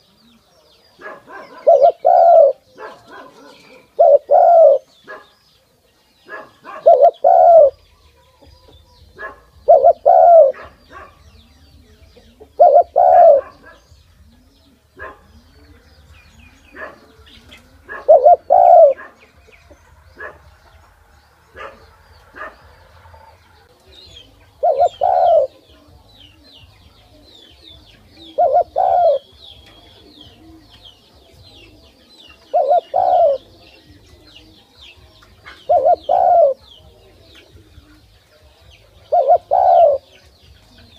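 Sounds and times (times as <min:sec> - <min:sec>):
dove cooing: 0:00.0 - 0:05.4, 0:06.2 - 0:20.9, 0:21.5 - 0:40.9.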